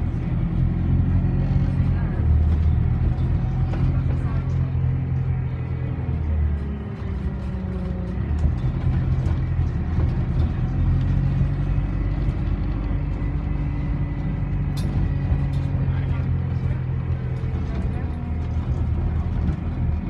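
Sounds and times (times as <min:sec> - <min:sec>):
bus engine humming: 0:00.0 - 0:20.0.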